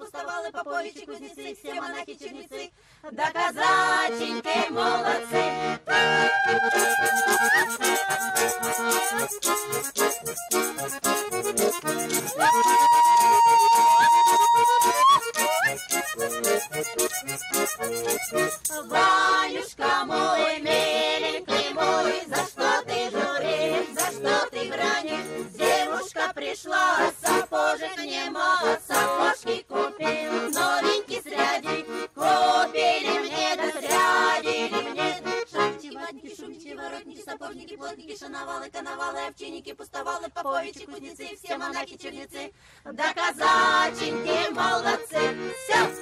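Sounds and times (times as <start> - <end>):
accordions: 0.0 - 46.0
folk ensemble singing: 0.0 - 46.0.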